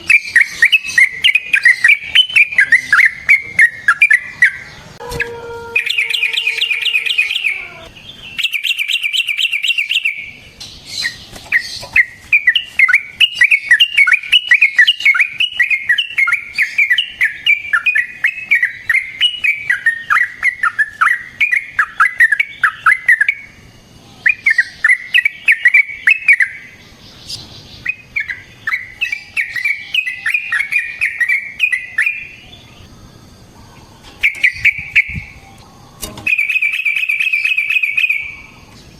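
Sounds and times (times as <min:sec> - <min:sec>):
bird singing bubbly rolls: 0:05.8 - 0:38.9.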